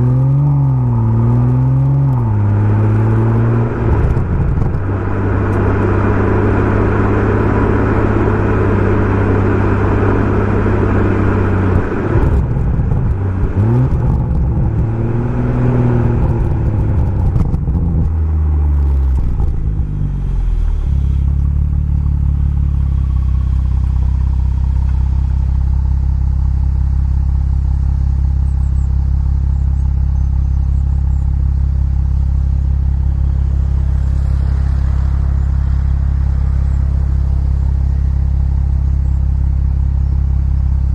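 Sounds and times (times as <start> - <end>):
car engine revving: 0.0 - 26.2, 31.1 - 40.2
exhaust cracks: 0.0 - 30.0, 31.0 - 40.9.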